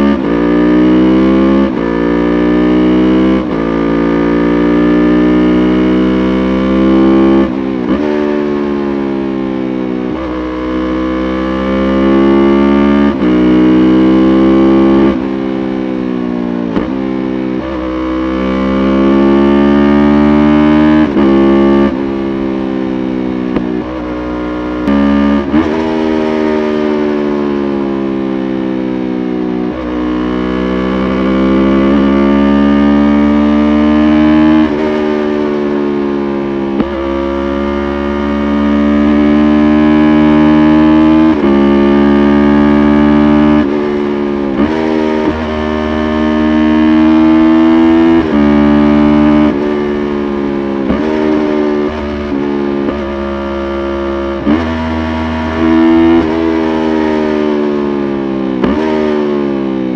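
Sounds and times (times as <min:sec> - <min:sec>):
motorcycle engine shifting up gears: 0:00.0 - 0:59.9.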